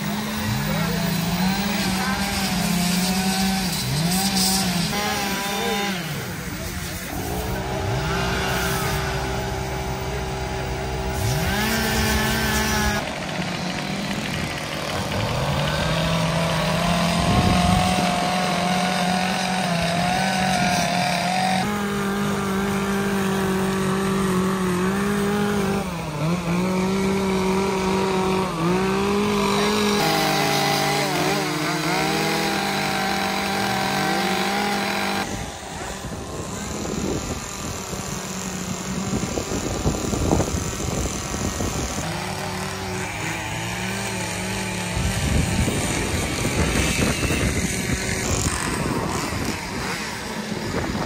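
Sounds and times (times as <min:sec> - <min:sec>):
chainsaws revving: 0:00.0 - 0:51.0.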